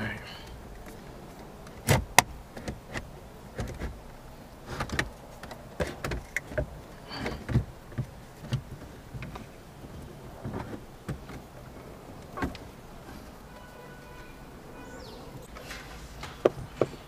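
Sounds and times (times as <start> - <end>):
plastic dashboard parts handled: 0.0 - 14.1, 15.5 - 17.0.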